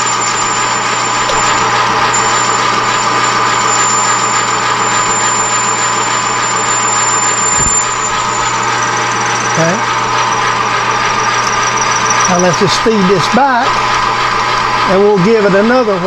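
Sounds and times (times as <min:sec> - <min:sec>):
metal lathe cutting: 0:00.0 - 0:16.0.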